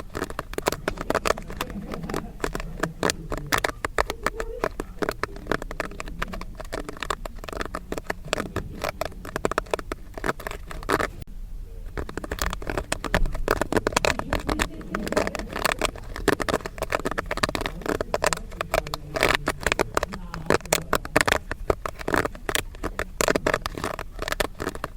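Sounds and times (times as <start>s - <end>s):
popcorn kernels popping: 0.0s - 24.9s.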